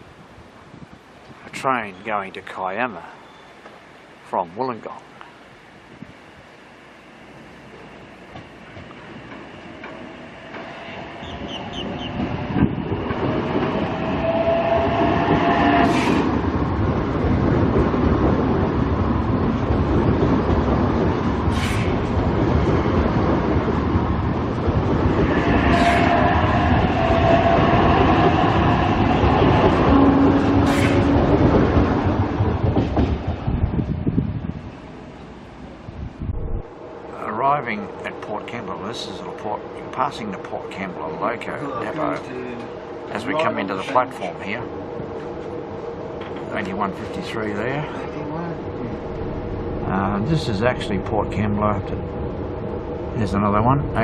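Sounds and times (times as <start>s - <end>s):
passenger train running: 0.0s - 54.0s.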